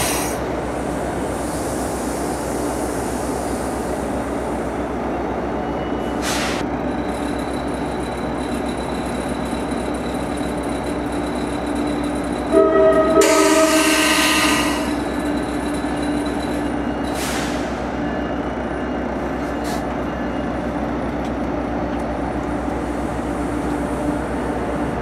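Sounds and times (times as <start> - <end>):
diesel train humming: 0.0 - 25.0.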